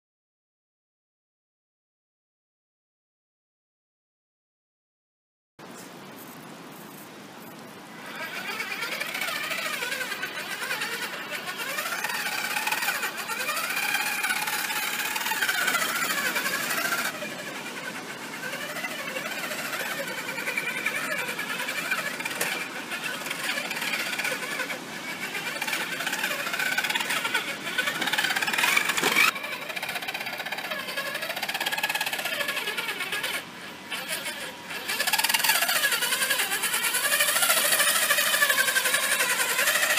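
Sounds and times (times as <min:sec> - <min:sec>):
electric motor and gears whining: 0:07.4 - 0:39.9.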